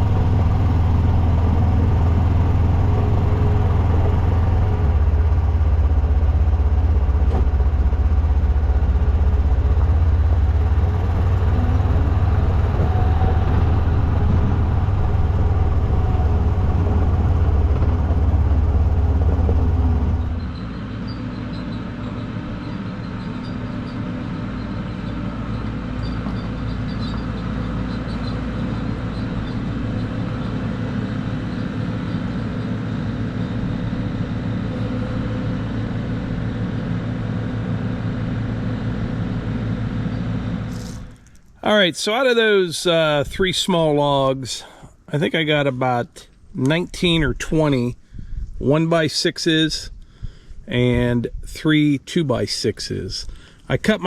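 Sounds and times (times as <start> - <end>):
sawmill engine running: 0.0 - 45.4, 53.0 - 54.0.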